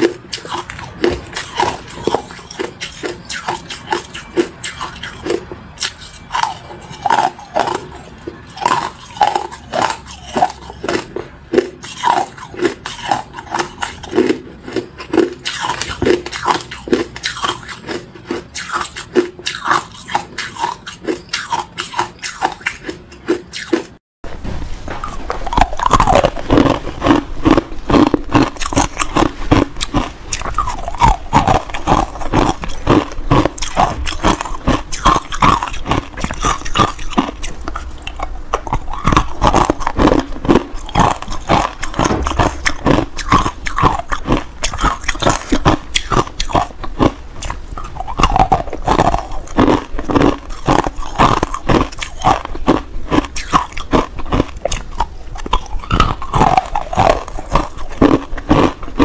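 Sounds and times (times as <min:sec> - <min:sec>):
ice cubes crunching: 0:00.0 - 0:23.9, 0:24.9 - 0:59.0.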